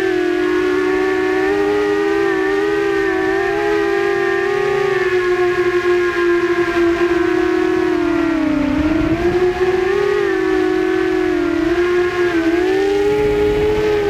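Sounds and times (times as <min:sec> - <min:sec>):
drone propellers whining: 0:00.0 - 0:14.0
wind rumble on microphone: 0:00.0 - 0:14.0.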